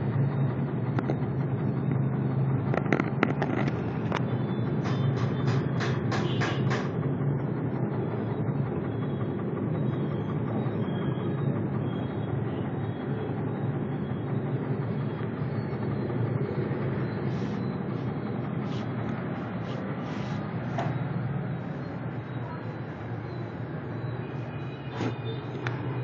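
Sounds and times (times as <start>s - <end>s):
shaker machine motor running: 0.0s - 26.0s.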